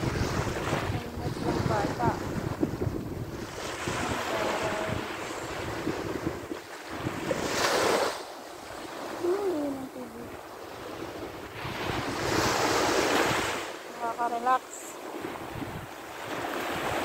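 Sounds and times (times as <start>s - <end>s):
wind on microphone: 0.0s - 14.2s, 15.1s - 17.0s
small waves washing up beach: 0.0s - 17.0s.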